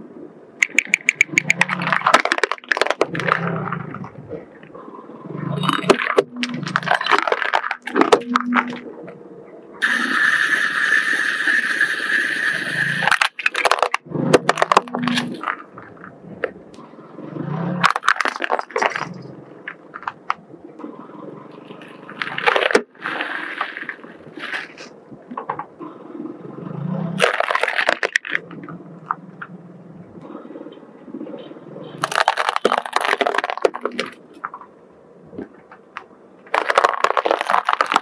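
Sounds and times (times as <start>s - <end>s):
objects crunching under car wheel: 0.6s - 38.0s.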